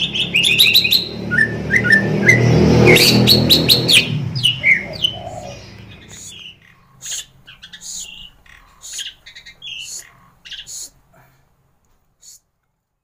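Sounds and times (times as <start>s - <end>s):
songbird chirping and whistling: 0.0s - 11.0s.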